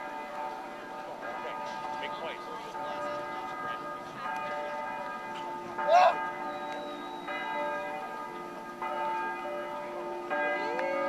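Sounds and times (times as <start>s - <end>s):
bells ringing: 0.0s - 11.0s.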